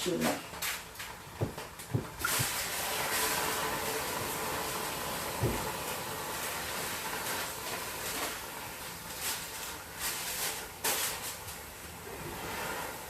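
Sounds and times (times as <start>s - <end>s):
kitchen rustling and scraping: 0.0s - 13.0s
steady hiss: 0.0s - 13.0s.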